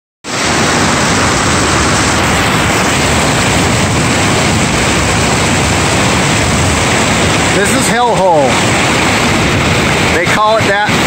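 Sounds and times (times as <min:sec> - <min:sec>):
river rapids rushing: 0:00.3 - 0:11.0.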